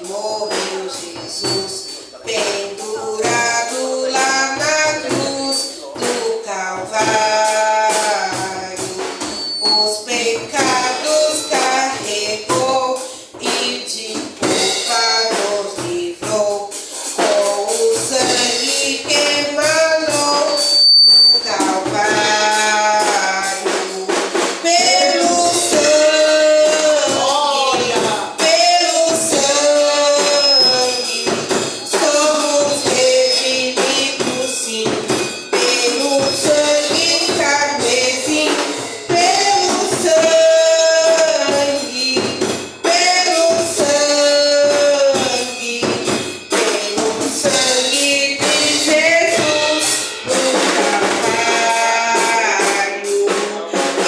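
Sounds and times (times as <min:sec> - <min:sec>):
instrumental accompaniment: 0:00.0 - 0:54.0
people singing worship song: 0:00.0 - 0:54.0
steady percussive beat: 0:00.0 - 0:54.0.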